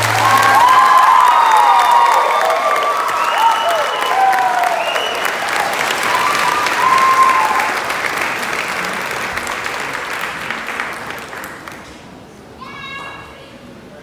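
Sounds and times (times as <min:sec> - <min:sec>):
audience clapping: 0:00.0 - 0:12.3.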